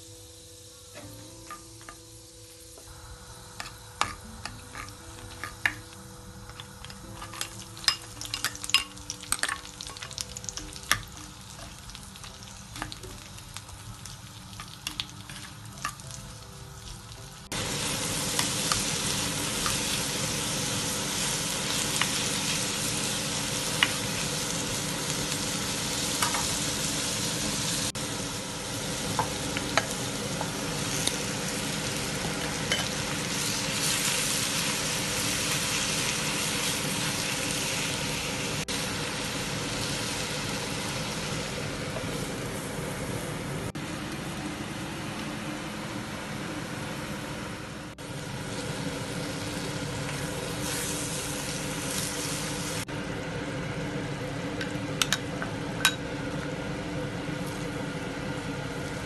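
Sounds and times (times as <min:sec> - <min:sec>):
onions sizzling in oil: 0:00.0 - 0:59.0.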